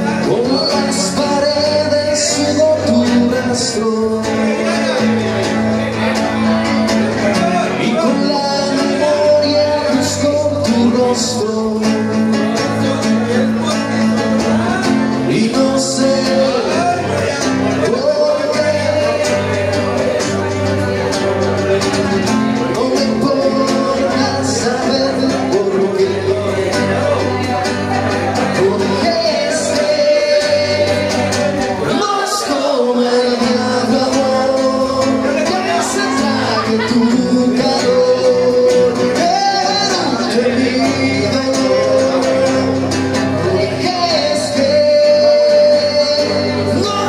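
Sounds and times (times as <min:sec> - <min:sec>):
man singing: 0:00.0 - 0:47.0
strummed acoustic guitar: 0:00.0 - 0:47.0.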